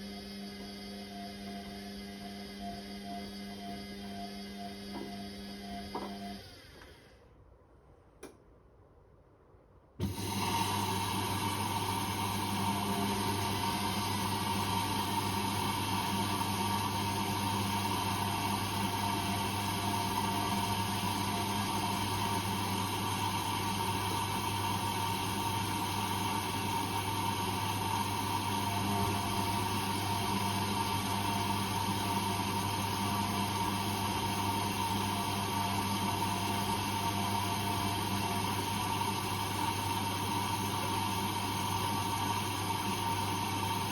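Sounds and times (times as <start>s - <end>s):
washing machine humming: 0.0s - 7.1s, 10.0s - 43.9s.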